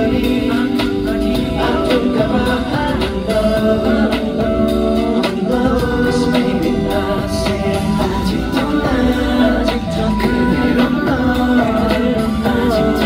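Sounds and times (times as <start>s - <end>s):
instrumental backing track: 0.0s - 13.0s
man singing into microphone: 0.0s - 13.0s.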